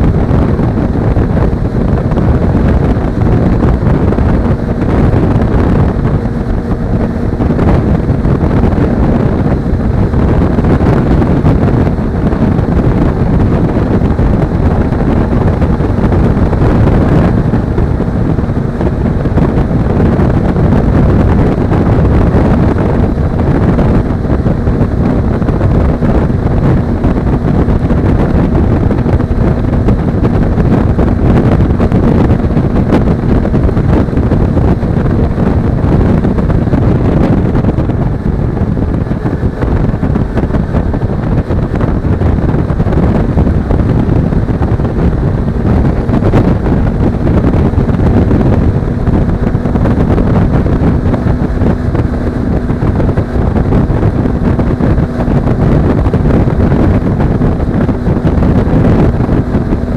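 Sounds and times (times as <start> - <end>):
motorcycle engine droning: 0.0 - 59.9
wind rushing on microphone: 0.0 - 59.9.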